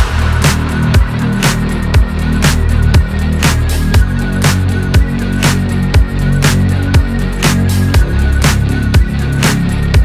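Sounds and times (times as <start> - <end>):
deep sustained bass: 0.0 - 10.0
music with steady beat: 0.0 - 10.0.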